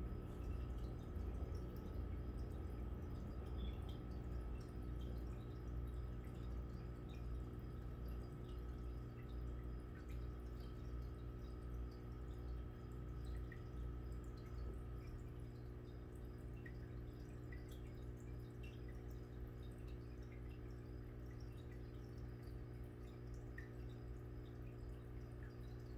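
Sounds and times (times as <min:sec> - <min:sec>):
aquarium equipment hum: 0:00.0 - 0:25.9.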